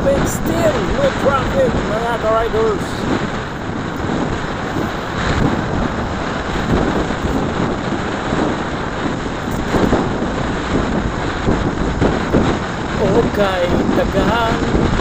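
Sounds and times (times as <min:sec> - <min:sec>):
motorcycle rumble: 0:00.0 - 0:15.0
wind rushing over microphone: 0:00.0 - 0:15.0.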